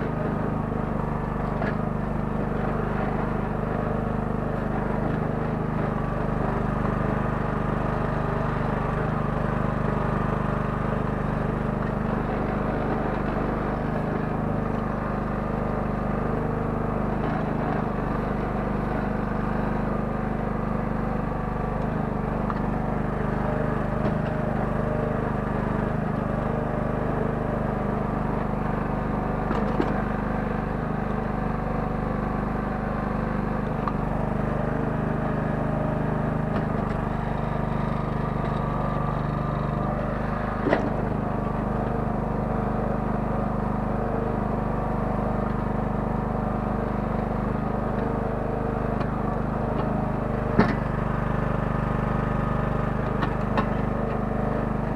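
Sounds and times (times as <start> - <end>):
small engine running under load: 0.0 - 54.9.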